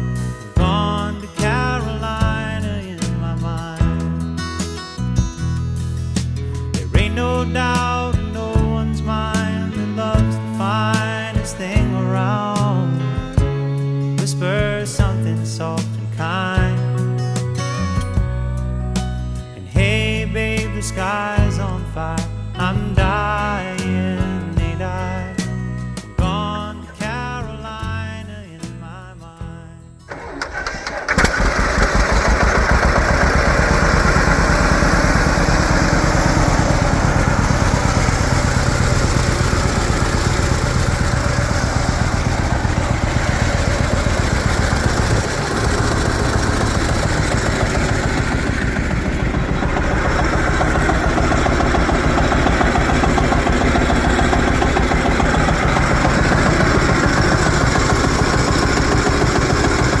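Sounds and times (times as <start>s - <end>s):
tractor engine starting and running: 0.0s - 13.5s, 14.2s - 27.3s, 30.0s - 60.0s.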